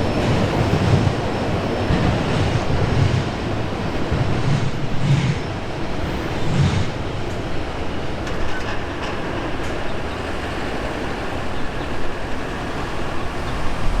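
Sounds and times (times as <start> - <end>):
freight cars rumbling on rails: 0.0 - 14.0.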